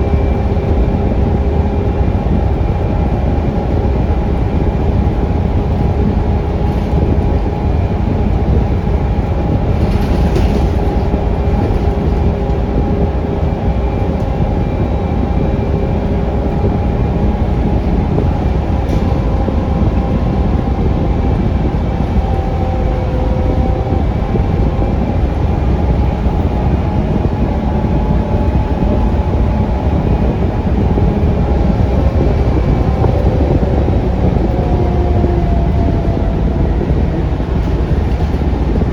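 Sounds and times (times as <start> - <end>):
bus diesel engine rumble: 0.0 - 38.9
faint whining tones: 0.0 - 38.9.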